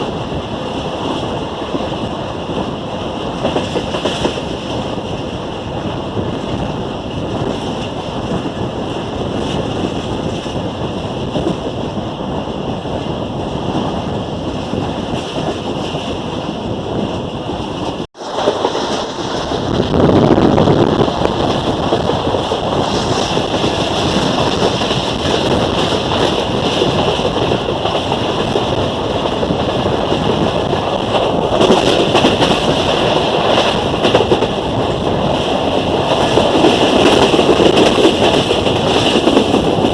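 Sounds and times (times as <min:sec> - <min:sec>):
train rushing rumble: 0:00.0 - 0:39.9
wind buffeting microphone: 0:00.0 - 0:39.9.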